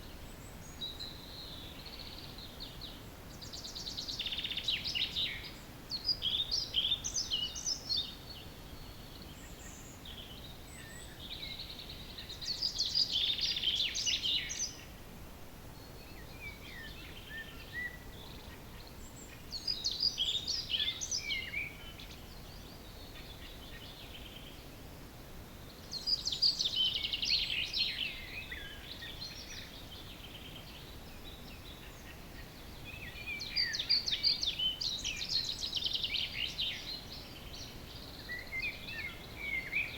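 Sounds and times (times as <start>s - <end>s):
quieter bird calls: 0.0s - 15.0s, 15.7s - 24.7s, 25.6s - 39.9s
songbirds singing: 0.0s - 39.9s.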